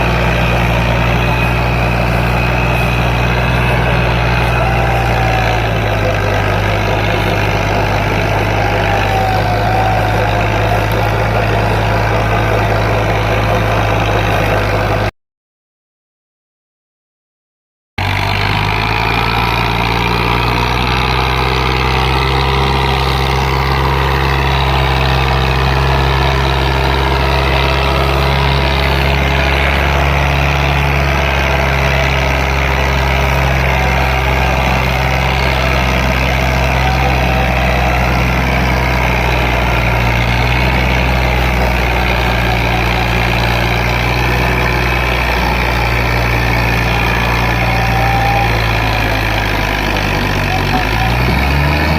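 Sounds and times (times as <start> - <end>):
tractor diesel engine running: 0.0 - 15.1, 18.0 - 51.9.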